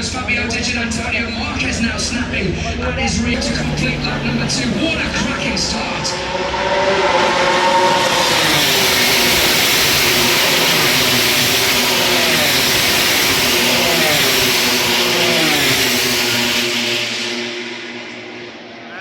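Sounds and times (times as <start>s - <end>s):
racing motorcycles at full throttle: 0.0s - 19.0s.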